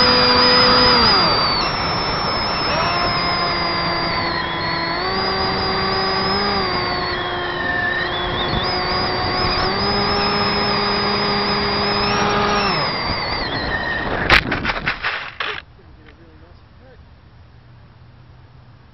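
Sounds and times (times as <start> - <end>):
electric motor and propeller droning: 0.0 - 15.6
model plane landing on grass: 0.0 - 16.2.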